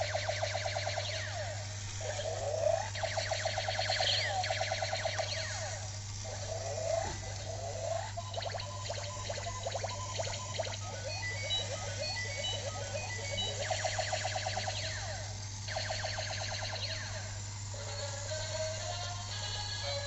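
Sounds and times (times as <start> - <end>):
steady low hum: 0.0 - 20.0
toy robot zaps and beeps: 0.0 - 20.0.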